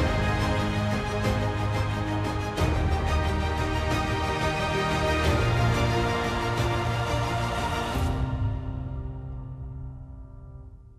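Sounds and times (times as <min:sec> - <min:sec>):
synth music with low bass: 0:00.0 - 0:10.8.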